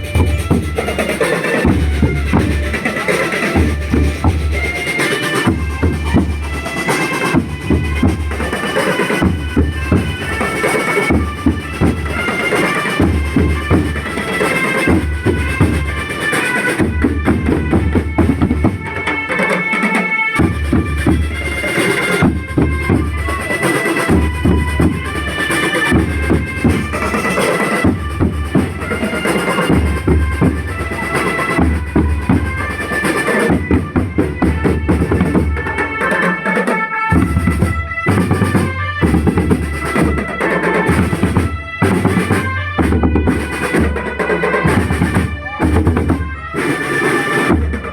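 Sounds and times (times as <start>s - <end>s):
bass and snare drums: 0.0s - 19.4s, 20.4s - 36.0s, 37.1s - 47.9s
wind instruments melody: 0.0s - 47.9s.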